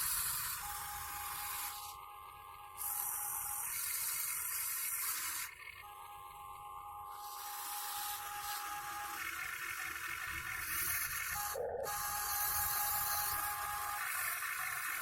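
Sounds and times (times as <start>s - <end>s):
electric gear motors whirring: 0.0s - 15.0s.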